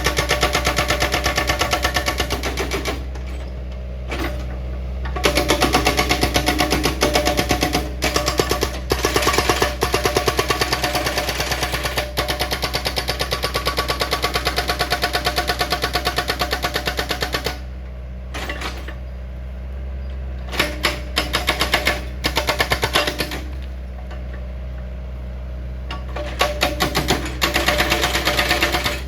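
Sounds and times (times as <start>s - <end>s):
hydraulic breaker hammering rock: 0.0s - 17.7s, 20.5s - 24.4s, 25.8s - 29.0s.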